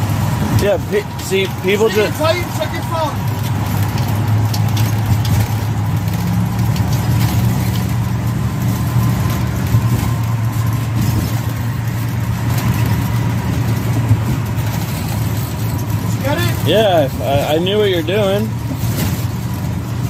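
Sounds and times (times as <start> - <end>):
engine and road noise drone: 0.0 - 20.0.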